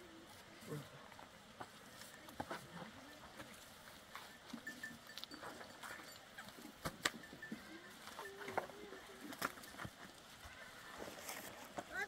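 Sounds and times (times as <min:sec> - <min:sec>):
tool scraping on dirt and straw: 0:01.6 - 0:12.0.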